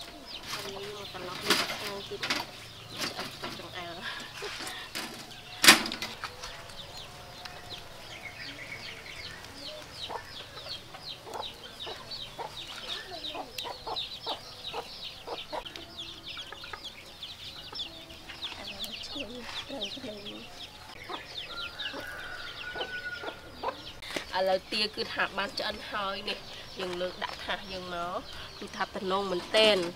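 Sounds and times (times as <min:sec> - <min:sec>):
chickens clucking and peeping: 0:00.0 - 0:29.9.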